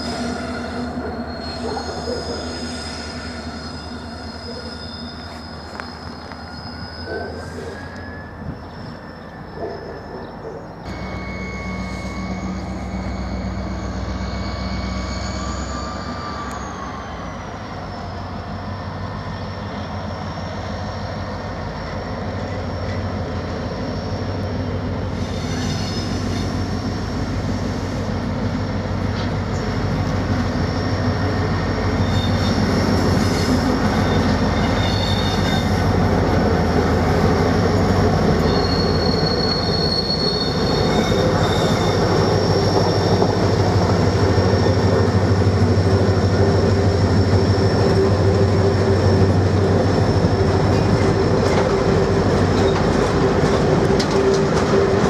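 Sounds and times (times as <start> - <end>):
wheel squeal: 0.0 - 18.3, 21.8 - 27.2, 30.4 - 55.0
diesel locomotive engine droning: 0.0 - 55.0.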